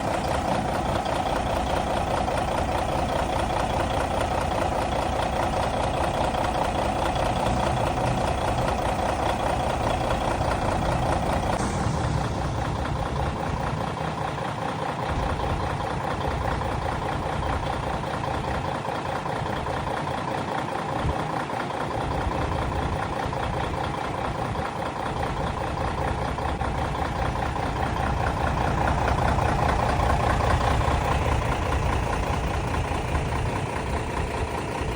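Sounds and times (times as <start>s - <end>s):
diesel bus engine rumbling: 0.0s - 34.9s.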